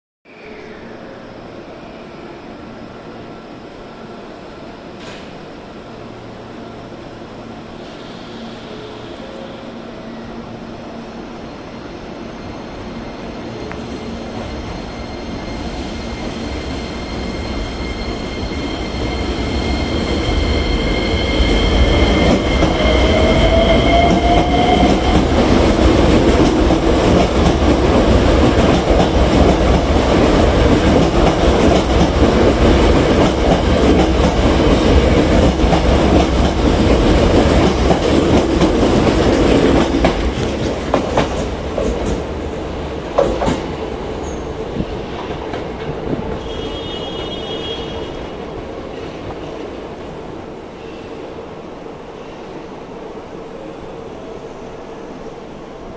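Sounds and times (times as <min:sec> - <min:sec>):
train running noise: 0:02.2 - 0:50.9.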